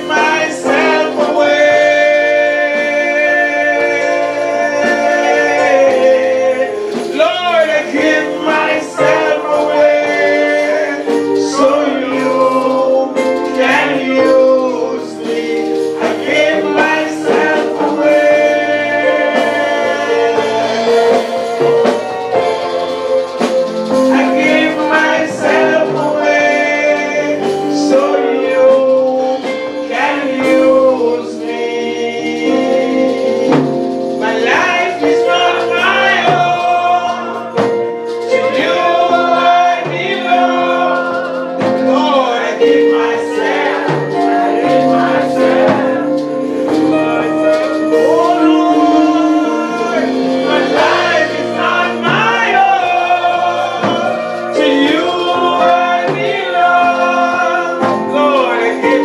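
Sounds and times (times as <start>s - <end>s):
congregation singing a gospel song: 0.0s - 59.0s.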